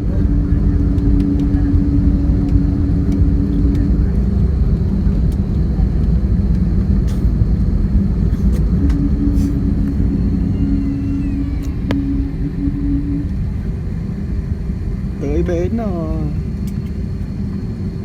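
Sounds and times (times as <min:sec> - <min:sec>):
steady hum: 0:00.0 - 0:18.0
wheels and engines rumbling: 0:00.0 - 0:18.0.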